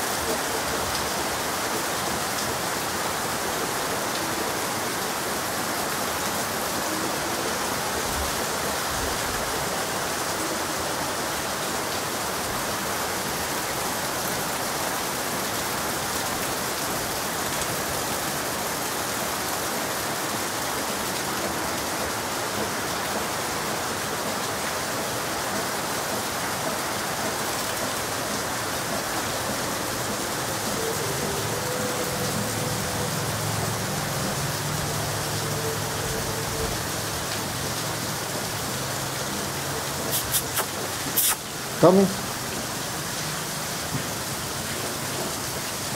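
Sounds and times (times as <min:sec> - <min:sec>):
heavy rain on ground and roofs: 0:00.0 - 0:45.9.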